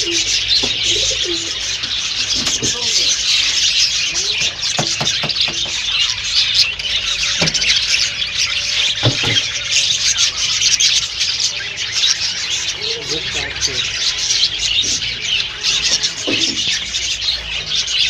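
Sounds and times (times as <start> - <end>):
lovebirds chattering and squawking: 0.0 - 18.0.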